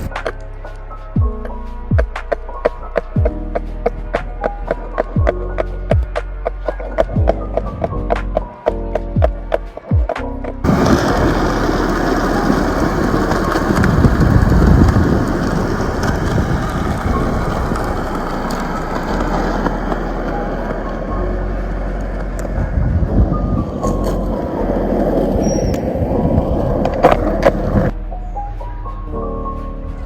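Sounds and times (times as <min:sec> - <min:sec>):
skateboard wheels rolling on pavement: 0:00.0 - 0:28.0
music: 0:00.0 - 0:30.0.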